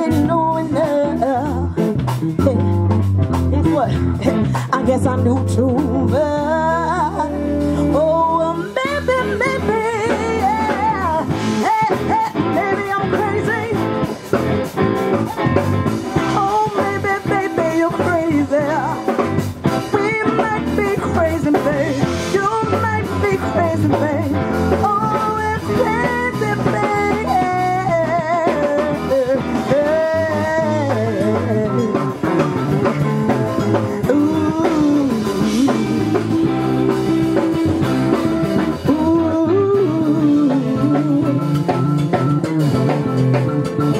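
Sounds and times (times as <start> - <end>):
woman singing through microphone: 0.0 - 14.2, 16.2 - 42.6
drum kit: 0.0 - 43.9
electric bass: 0.0 - 43.9
electric guitar: 0.0 - 43.9.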